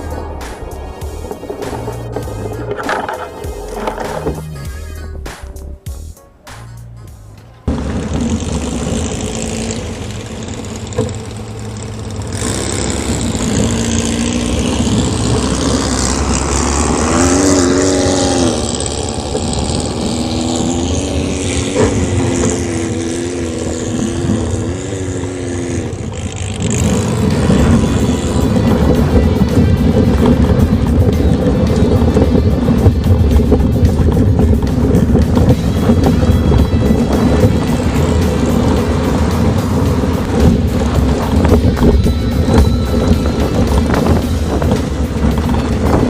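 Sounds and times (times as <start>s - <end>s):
steady rush of noise: 0.0s - 4.4s, 7.3s - 46.0s
car engine revving: 0.0s - 4.6s, 7.3s - 46.0s.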